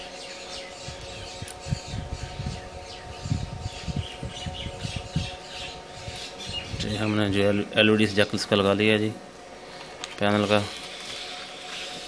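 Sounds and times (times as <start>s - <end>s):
birds chirping: 0.0s - 12.0s
faint hum: 0.0s - 12.0s.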